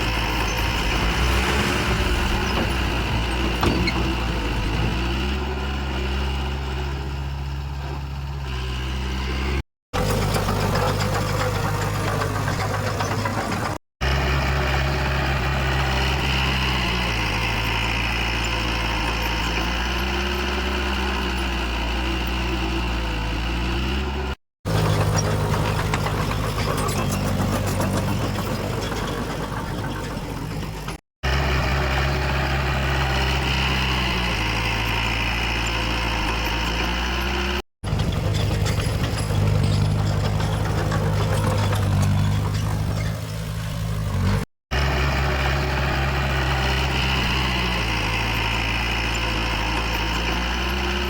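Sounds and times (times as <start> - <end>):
heavy machinery diesel engine running: 0.0 - 51.0.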